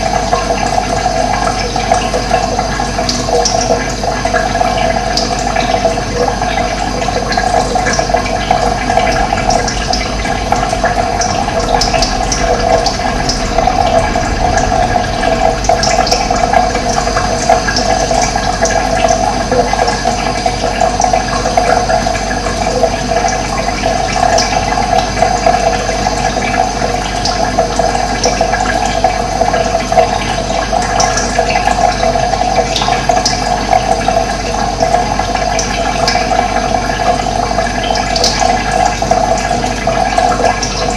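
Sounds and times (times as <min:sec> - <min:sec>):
running water splashing: 0:00.0 - 0:37.1.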